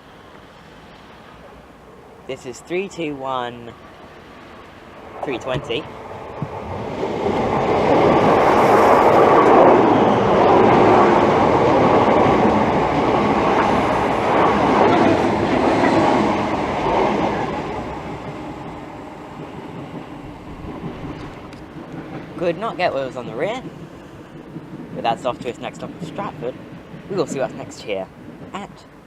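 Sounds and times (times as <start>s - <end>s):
electric train passing: 0.0s - 29.0s
wheels clickety-clack on rails: 3.7s - 29.0s.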